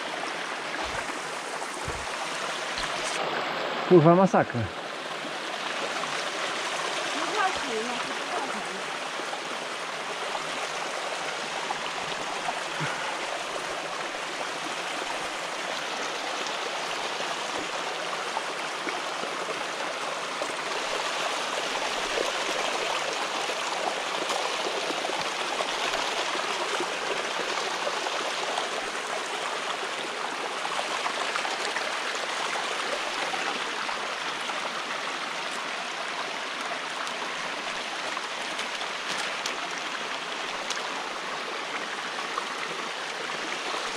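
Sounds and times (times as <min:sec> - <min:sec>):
stream splashing down rock: 0:00.0 - 0:43.9.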